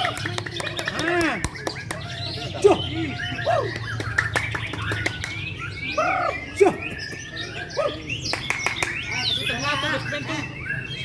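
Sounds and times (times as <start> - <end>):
birds singing fluty whistles: 0.0 - 11.0.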